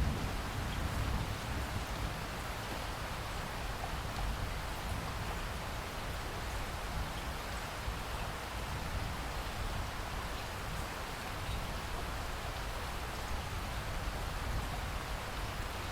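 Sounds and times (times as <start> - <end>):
steady rain hiss: 0.0 - 15.9.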